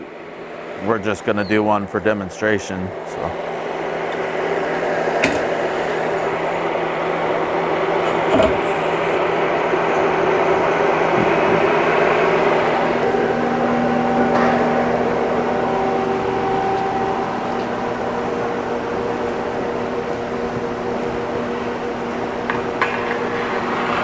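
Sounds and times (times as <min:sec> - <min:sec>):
steady mechanical hum: 0:00.0 - 0:24.0
steady tones: 0:00.0 - 0:24.0.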